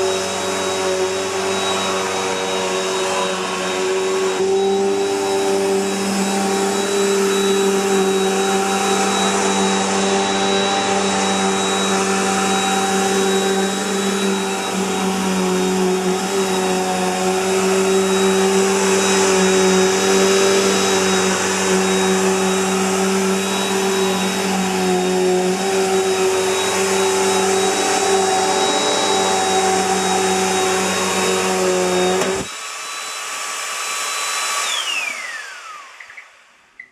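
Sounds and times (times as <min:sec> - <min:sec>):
vacuum motor winding down: 0:00.0 - 0:36.6
vacuum cleaner running: 0:00.0 - 0:36.9.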